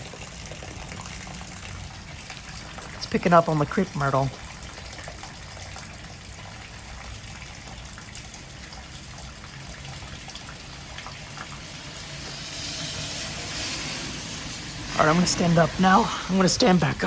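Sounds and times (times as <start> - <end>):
rain falling: 0.0 - 17.0
water running and splashing: 0.0 - 17.0.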